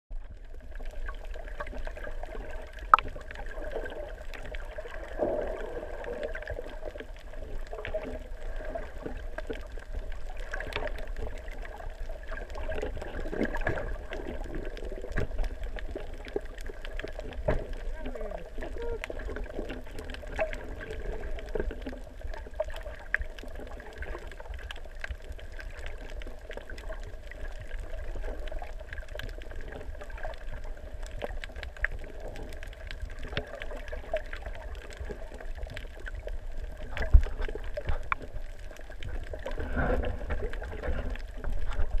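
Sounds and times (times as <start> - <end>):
crackling clicks: 0.1 - 42.0
faint steady hums: 0.1 - 42.0
muffled underwater rumble: 0.1 - 42.0.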